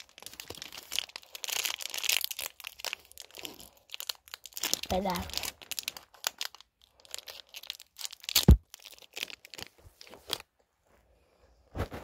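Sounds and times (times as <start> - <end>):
sweet wrapper crinkling: 0.0 - 10.5.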